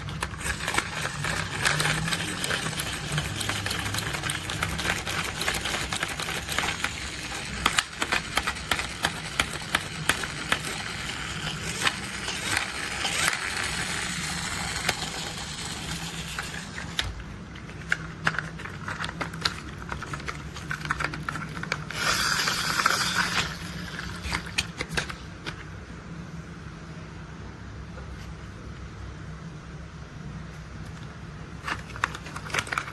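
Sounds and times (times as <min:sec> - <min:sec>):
plastic toys clicking and rattling: 0:00.0 - 0:25.2, 0:31.6 - 0:32.9
low steady hum: 0:00.0 - 0:32.9.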